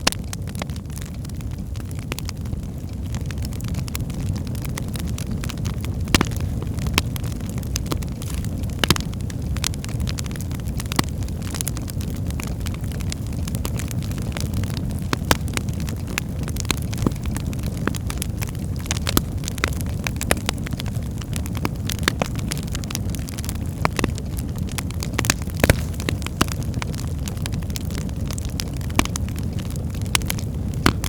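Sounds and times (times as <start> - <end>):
fire crackling and popping: 0.0 - 31.0
low rush of flames: 0.0 - 31.0.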